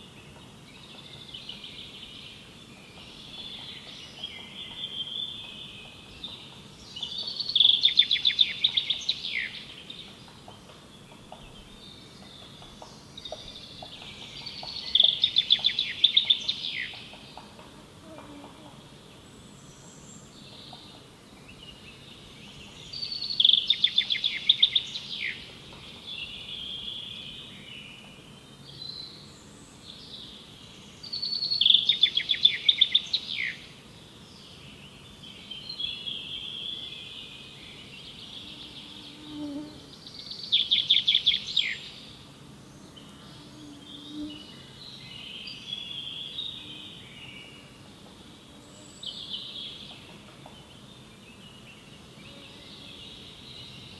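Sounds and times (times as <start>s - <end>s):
faint background hiss: 0.0s - 53.9s.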